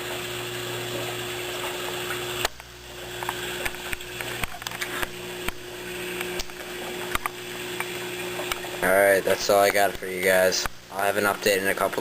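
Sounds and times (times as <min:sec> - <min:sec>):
pump hum: 0:00.0 - 0:12.0
water hissing and bubbling: 0:00.0 - 0:12.0.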